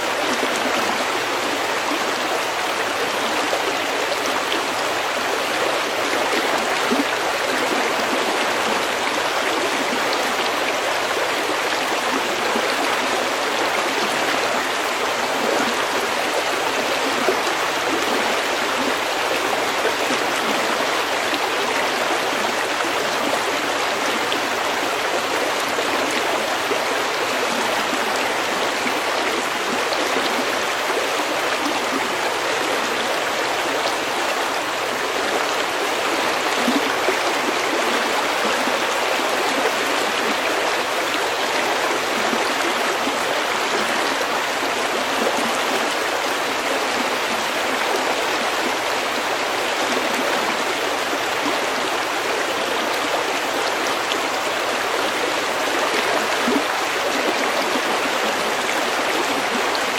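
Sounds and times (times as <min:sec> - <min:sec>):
stream flowing over pebbles: 0:00.0 - 0:59.9.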